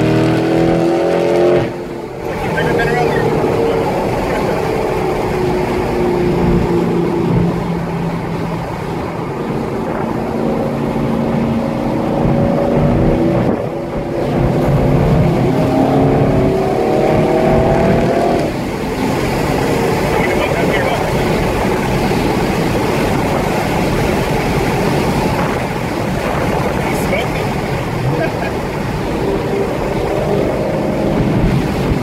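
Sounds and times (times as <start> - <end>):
car engine accelerating: 0.0 - 32.0
road and wind noise: 0.0 - 32.0.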